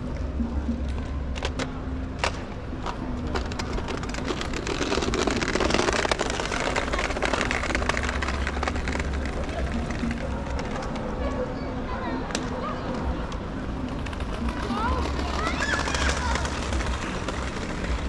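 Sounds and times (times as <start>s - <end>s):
wheels clattering on street: 0.0s - 18.0s.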